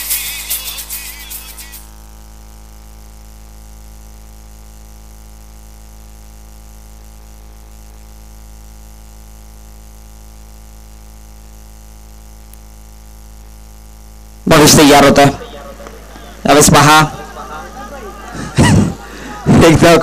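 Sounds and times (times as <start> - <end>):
low hum and buzz: 0.0 - 20.0.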